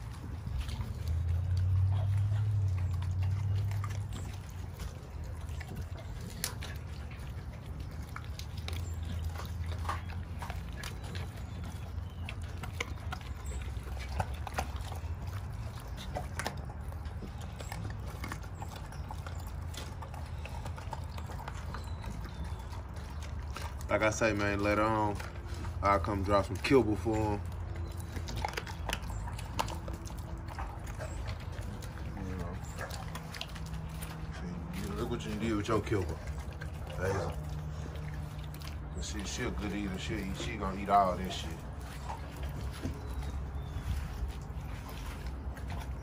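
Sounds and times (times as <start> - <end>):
dog crunching bones: 0.0 - 46.0.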